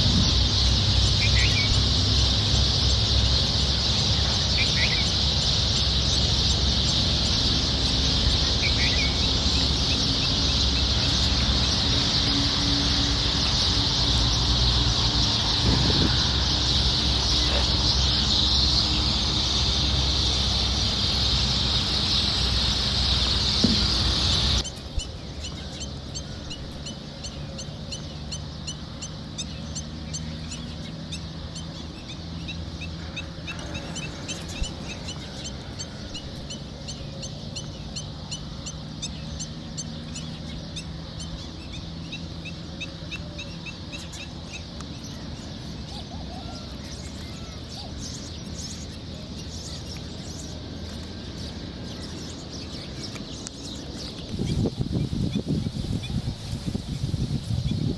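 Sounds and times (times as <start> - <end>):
bird calls: 0.0 - 57.9.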